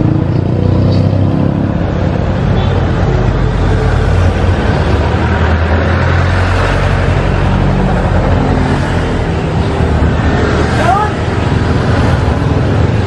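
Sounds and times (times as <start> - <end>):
street traffic: 0.0 - 13.0
vehicle engine rumbling: 0.0 - 13.0.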